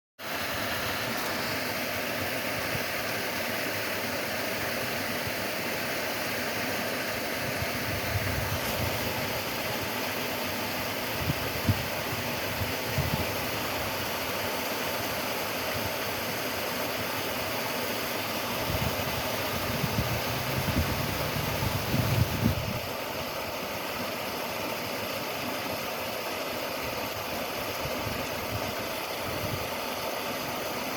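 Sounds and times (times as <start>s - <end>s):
water rushing through a canal lock: 0.2s - 30.9s.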